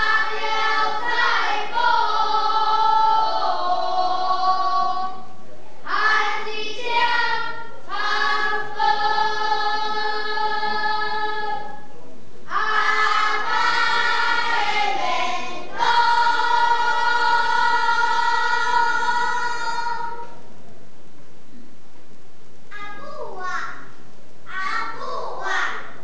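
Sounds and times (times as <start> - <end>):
children singing together: 0.0 - 11.9, 12.5 - 20.4, 24.5 - 26.0.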